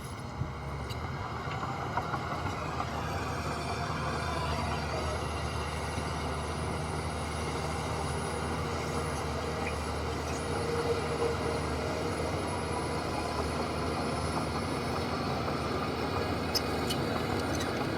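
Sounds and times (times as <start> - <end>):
heavy machinery diesel engine running: 0.0 - 17.9.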